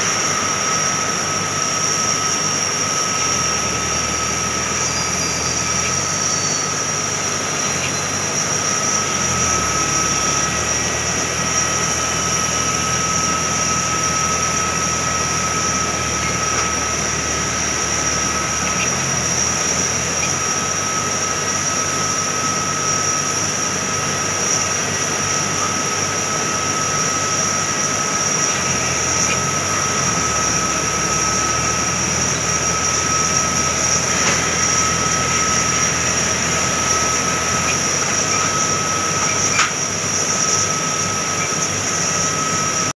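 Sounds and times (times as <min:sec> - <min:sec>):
jet turbines whining: 0:00.0 - 0:42.9.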